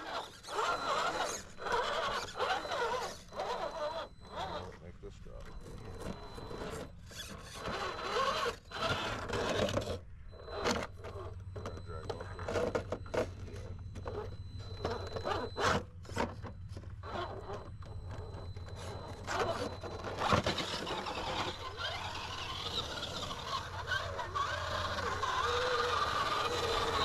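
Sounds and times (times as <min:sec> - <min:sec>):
toy crawler scraping on rock: 0:00.0 - 0:04.8, 0:05.5 - 0:27.0.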